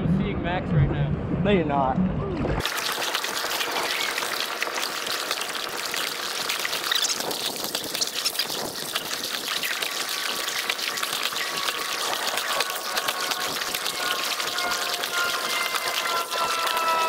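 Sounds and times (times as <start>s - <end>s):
water lapping at hull: 2.6s - 17.0s
water splashing and trickling: 2.6s - 17.0s.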